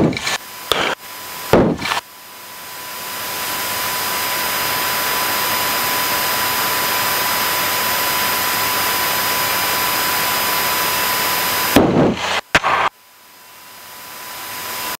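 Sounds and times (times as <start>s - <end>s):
light airplane engine and propeller: 0.0s - 14.9s.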